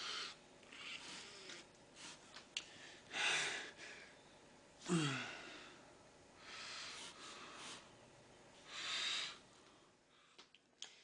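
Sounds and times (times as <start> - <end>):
soft breaths: 0.0 - 11.0.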